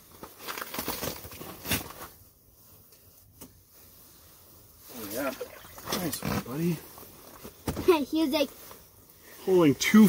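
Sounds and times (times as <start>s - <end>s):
rustling and handling noises: 0.0s - 10.0s.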